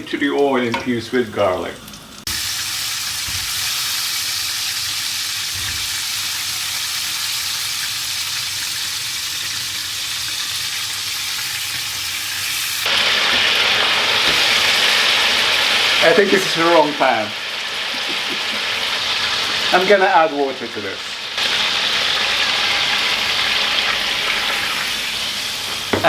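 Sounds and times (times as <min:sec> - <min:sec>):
food sizzling in oil: 0:00.4 - 0:26.0.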